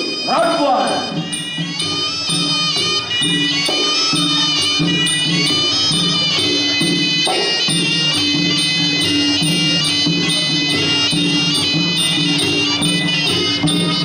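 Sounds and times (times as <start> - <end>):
drums: 0.0 - 14.0
shrill reedy oboe melody: 0.0 - 14.0.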